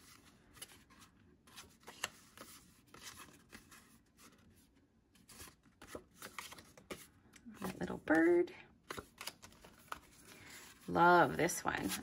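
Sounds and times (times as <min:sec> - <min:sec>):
paper cards rustling: 0:00.0 - 0:11.0, 0:11.7 - 0:12.0.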